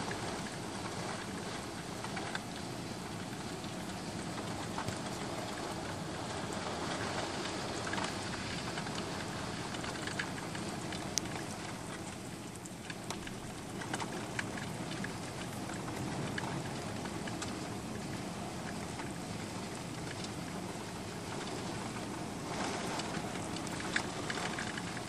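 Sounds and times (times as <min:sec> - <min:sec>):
heavy rain hissing: 0:00.0 - 0:25.0
raindrops ticking: 0:00.0 - 0:25.0.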